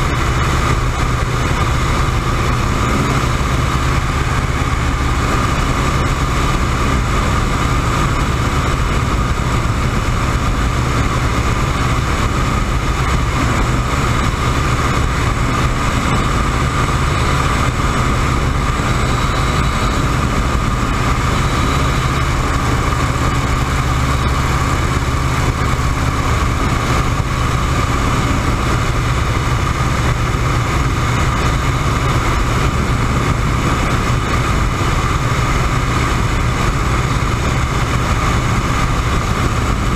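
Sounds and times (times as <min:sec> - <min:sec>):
propeller plane engine running: 0:00.0 - 0:39.9
wind rushing past microphone: 0:00.0 - 0:39.9.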